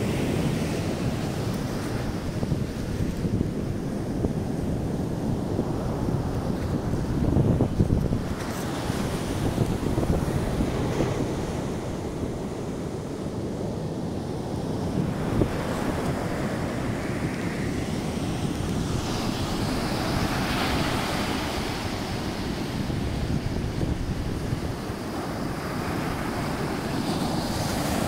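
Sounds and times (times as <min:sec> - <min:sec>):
surf breaking on the shore: 0:00.0 - 0:28.0
wind buffeting the microphone: 0:00.0 - 0:28.0.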